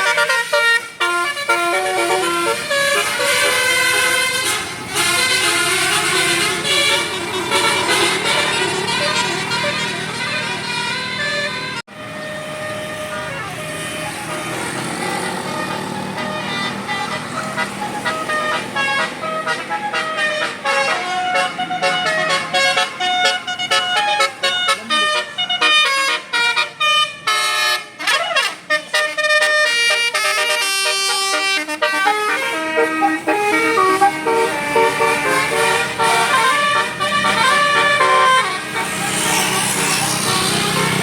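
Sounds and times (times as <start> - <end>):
bus musical horn: 0.0 - 41.0.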